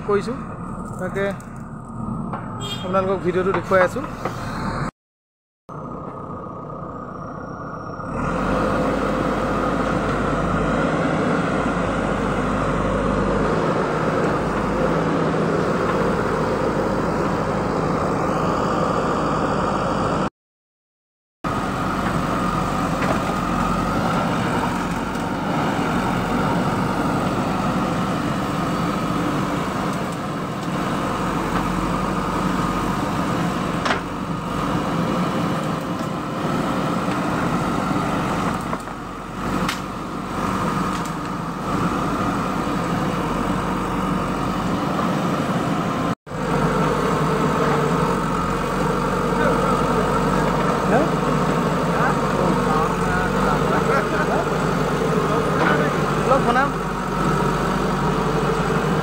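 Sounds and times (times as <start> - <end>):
diesel engine running: 0.0 - 4.9, 5.7 - 20.3, 21.4 - 59.0.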